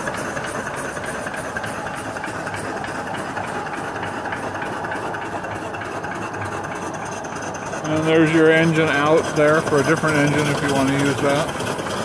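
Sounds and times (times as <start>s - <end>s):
steam engine running: 0.0s - 12.0s.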